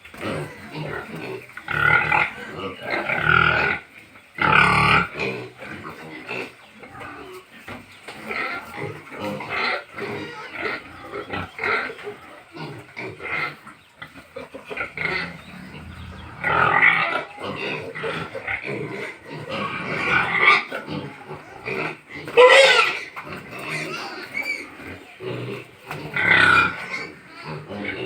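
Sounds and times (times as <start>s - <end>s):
pigs calling: 0.0s - 28.0s.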